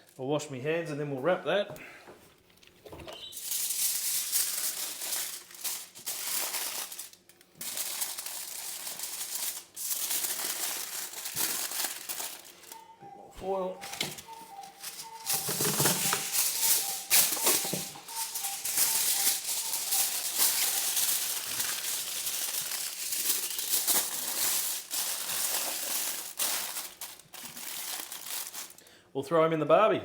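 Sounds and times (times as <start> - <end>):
aluminium foil crinkling: 2.3 - 12.9, 13.8 - 28.9.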